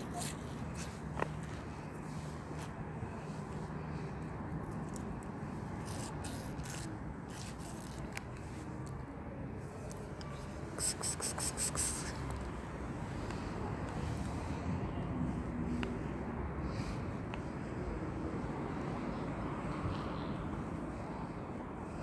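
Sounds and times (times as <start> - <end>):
street background noise: 0.0 - 22.0.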